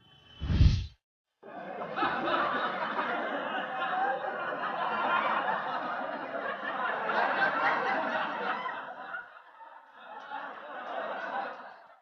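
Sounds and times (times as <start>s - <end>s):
young men laughing: 1.4s - 12.0s.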